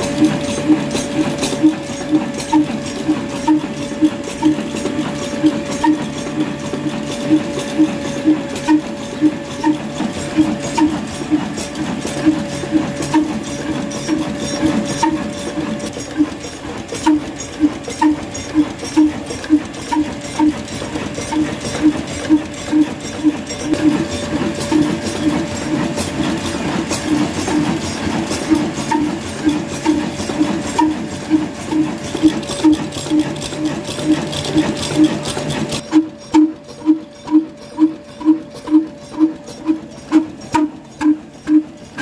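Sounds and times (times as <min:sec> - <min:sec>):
stationary diesel engine running: 0:00.0 - 0:42.0
valve gear ticking: 0:00.0 - 0:42.0.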